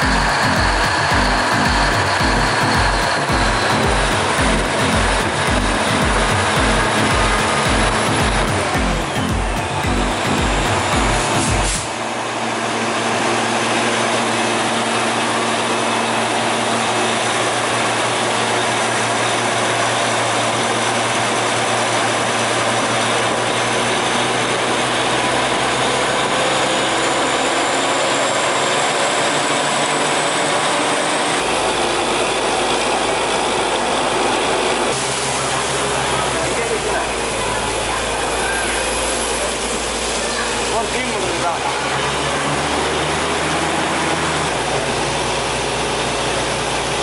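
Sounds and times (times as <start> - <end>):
diesel engine drone: 0.0 - 47.0
high compressor whine: 0.0 - 47.0.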